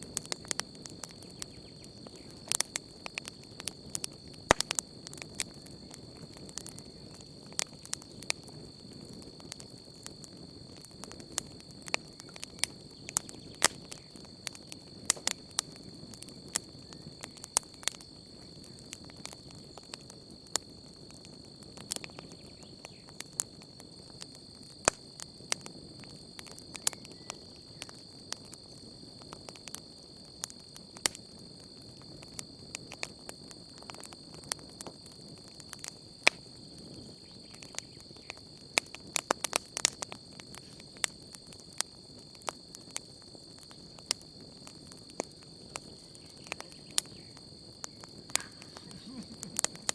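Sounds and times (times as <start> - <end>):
campfire crackling and popping: 0.0 - 49.9
night insects droning: 0.0 - 49.9.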